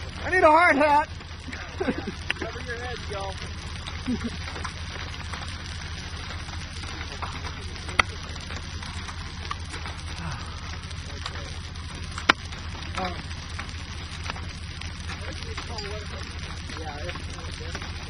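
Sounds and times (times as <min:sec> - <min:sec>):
hailstones ticking: 0:00.0 - 0:18.0
low constant hum: 0:00.0 - 0:18.0
rain: 0:00.0 - 0:18.0
wind: 0:00.0 - 0:18.0.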